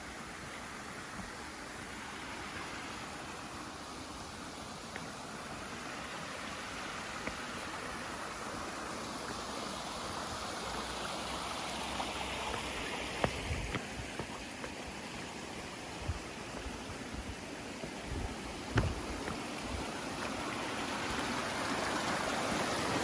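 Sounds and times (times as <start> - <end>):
flowing water rushing: 0.0 - 23.0.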